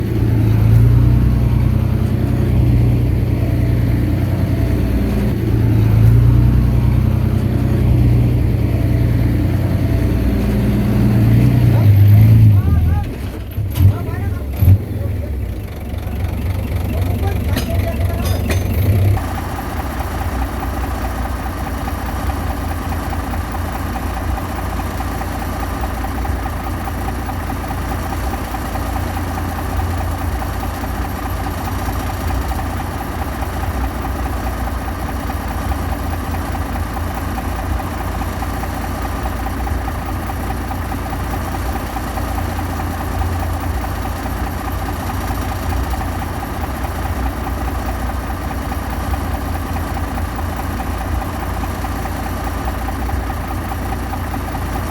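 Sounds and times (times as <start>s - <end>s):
diesel engine rumbling: 0.0s - 54.9s.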